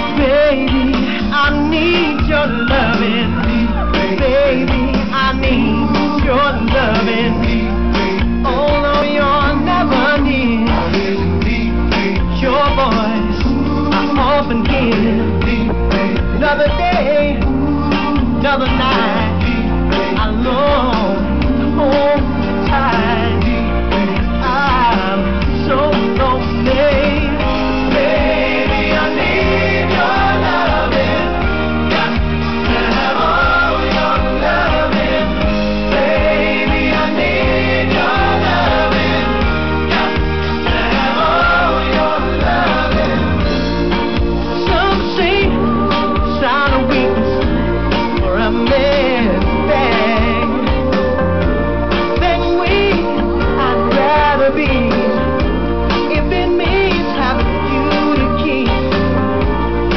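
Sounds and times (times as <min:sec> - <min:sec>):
bass guitar: 0:00.0 - 0:59.9
live pop band playing: 0:00.0 - 0:59.9
person singing: 0:00.0 - 0:59.9
steady drum beat: 0:00.0 - 0:59.9
sung vocals: 0:00.0 - 0:59.9.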